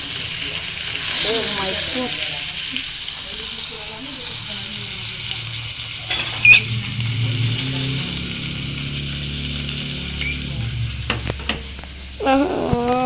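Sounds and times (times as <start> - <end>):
steak sizzling in a frying pan: 0.0 - 13.0.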